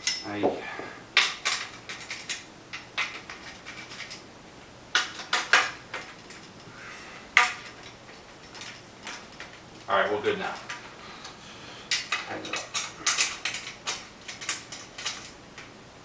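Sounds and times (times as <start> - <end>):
metal clinks and knocks: 0.0 - 0.4, 1.2 - 6.7, 7.3 - 11.0, 11.9 - 15.8.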